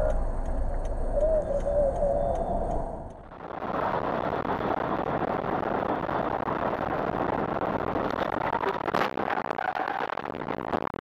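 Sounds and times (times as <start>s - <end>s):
vehicle driving at highway speed: 0.0s - 9.5s.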